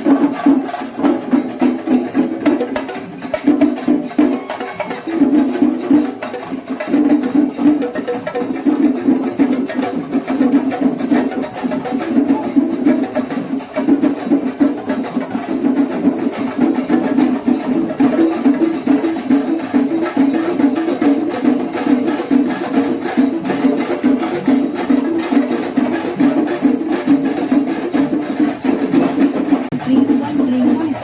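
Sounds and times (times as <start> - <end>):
group of drums beating: 0.0 - 31.0.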